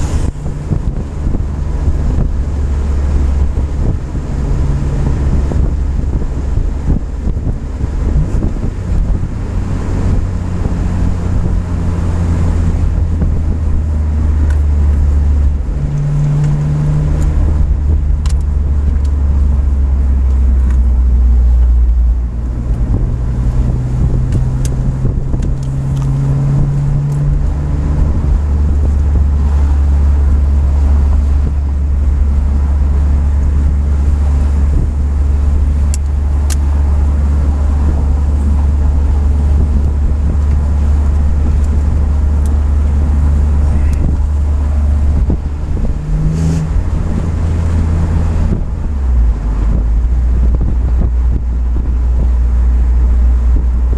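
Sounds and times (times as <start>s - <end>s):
car engine and road drone: 0.0s - 53.9s.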